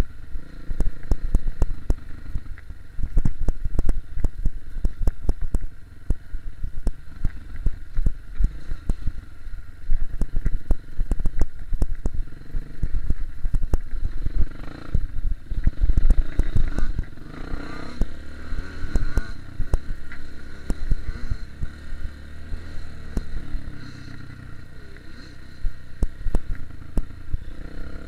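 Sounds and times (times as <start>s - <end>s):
dirt bike engine running: 0.0s - 28.0s.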